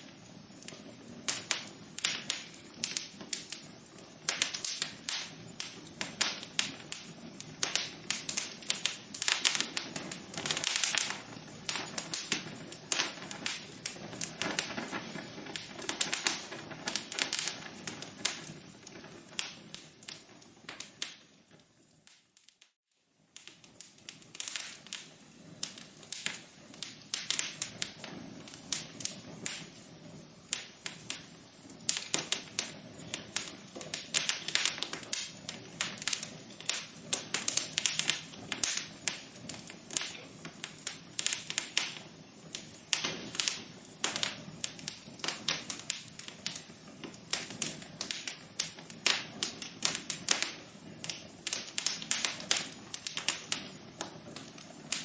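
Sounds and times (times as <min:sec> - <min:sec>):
fire crackling and popping: 0:00.0 - 0:55.0
soft hiss of burning: 0:00.0 - 0:55.0.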